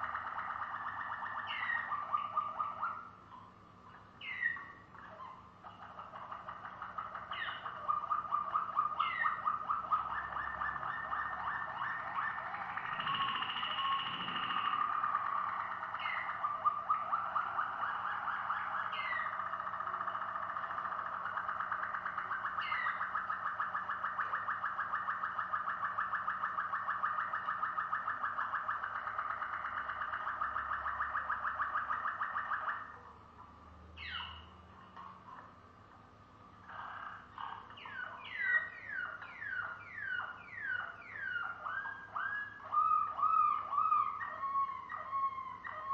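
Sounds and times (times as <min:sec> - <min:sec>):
canary singing rolling trills: 0:00.0 - 0:45.9.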